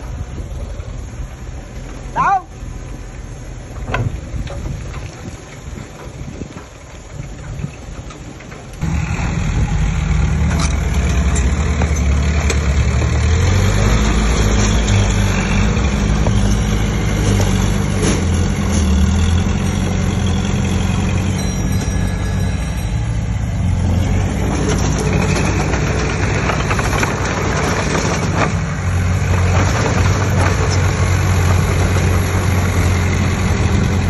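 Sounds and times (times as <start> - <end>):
heavy machine diesel engine running: 0.0 - 34.0.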